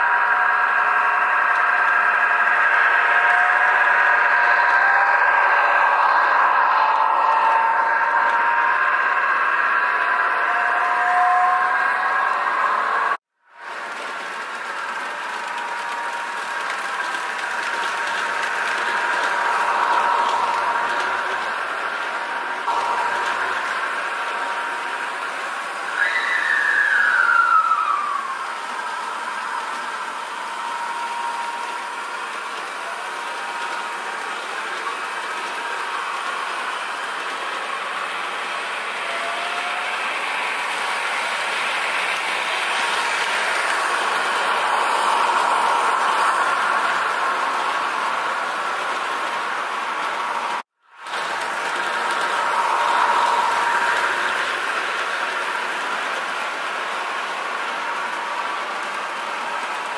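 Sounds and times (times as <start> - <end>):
diesel railcar engine from small speaker: 0.0 - 59.9.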